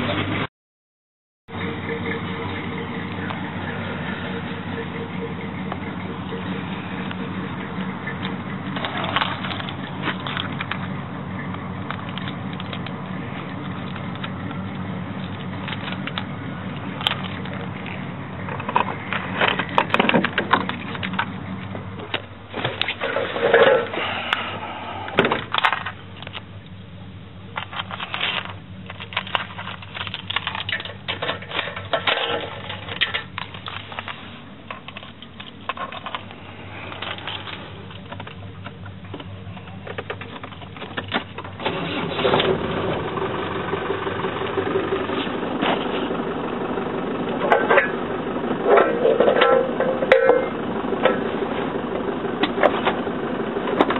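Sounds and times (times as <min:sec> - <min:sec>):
engine running steadily: 0:00.0 - 0:00.5, 0:01.5 - 0:53.9
crackling and knocking: 0:01.5 - 0:24.4, 0:27.5 - 0:53.9.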